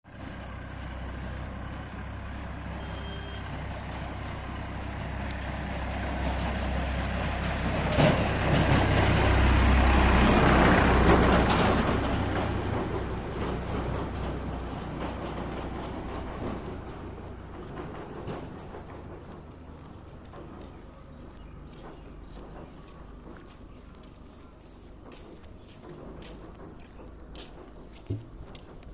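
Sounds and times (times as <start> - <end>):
heavy vehicle passing: 0.0 - 25.2.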